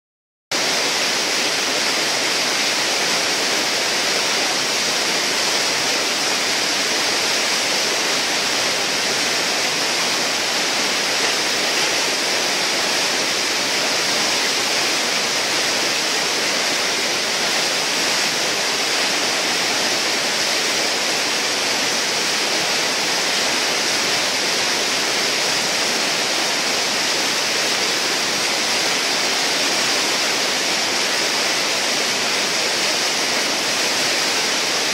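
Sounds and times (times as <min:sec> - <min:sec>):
whitewater rushing: 0:00.5 - 0:34.9.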